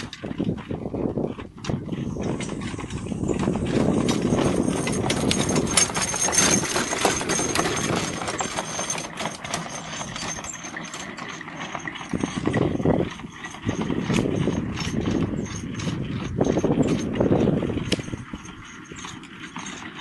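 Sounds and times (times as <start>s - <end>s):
carriage rattling and creaking: 0.0s - 20.0s
horse hoofbeats on grass: 0.0s - 20.0s
harness jingling: 1.9s - 20.0s.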